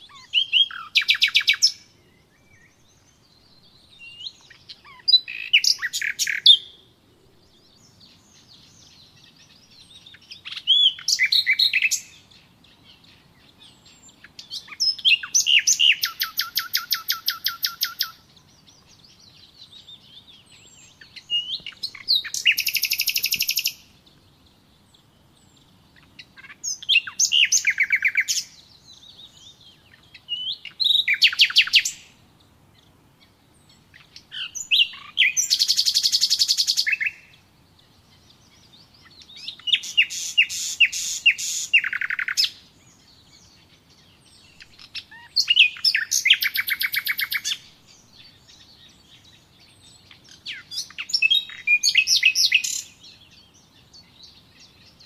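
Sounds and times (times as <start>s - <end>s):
songbird trilling: 0.0s - 6.8s, 7.6s - 32.2s, 33.2s - 55.0s
soft bird twittering: 0.0s - 55.0s.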